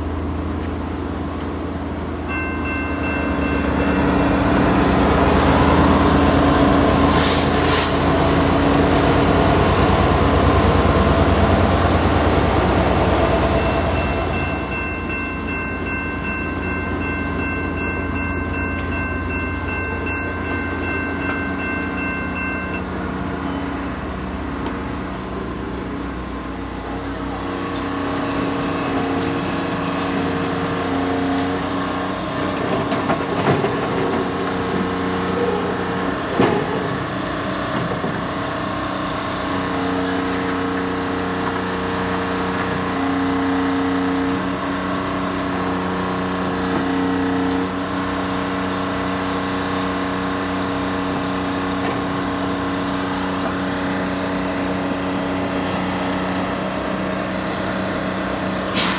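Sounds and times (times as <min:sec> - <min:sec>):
diesel engines running under load: 0:00.0 - 0:58.9.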